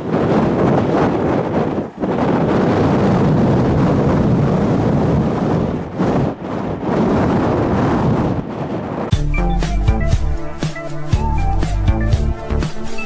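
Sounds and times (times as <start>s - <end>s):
gusty wind buffeting microphone: 0.0s - 13.0s.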